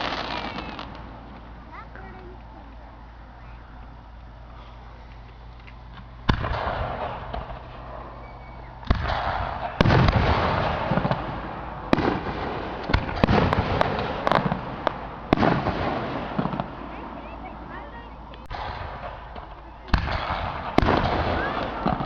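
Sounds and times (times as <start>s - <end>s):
fireworks bursting: 0.0s - 22.0s
fireworks crackling: 0.0s - 22.0s.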